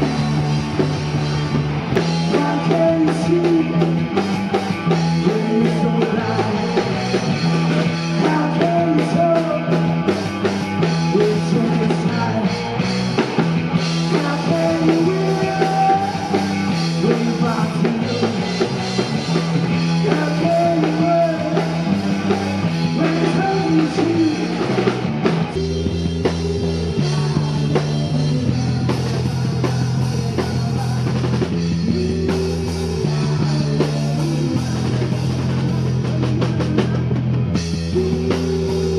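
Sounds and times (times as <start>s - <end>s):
drum kit: 0.0s - 38.9s
electric guitar: 0.0s - 38.9s
steady bass line: 0.0s - 38.9s
person singing: 2.0s - 12.8s, 13.9s - 24.9s, 25.6s - 37.2s, 37.8s - 38.9s.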